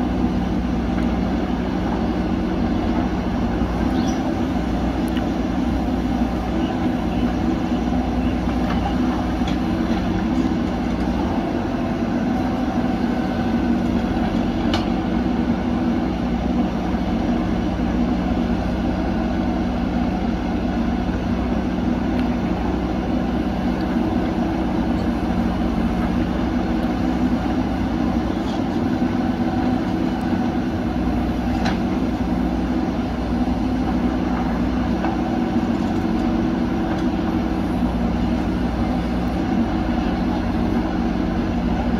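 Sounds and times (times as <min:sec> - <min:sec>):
diesel engines running under load: 0:00.0 - 0:41.9.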